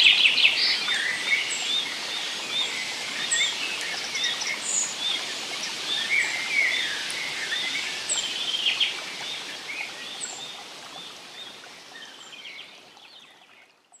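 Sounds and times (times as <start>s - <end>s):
steady background hiss: 0.0s - 12.7s.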